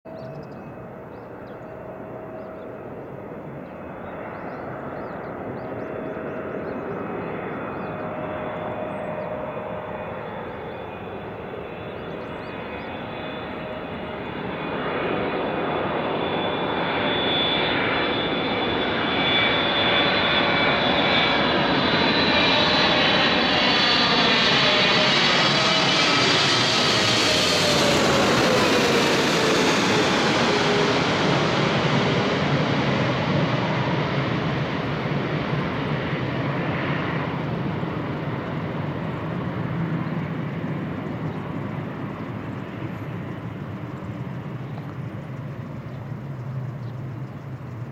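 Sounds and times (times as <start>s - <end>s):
jet engine roar and fan whine: 0.1s - 47.9s.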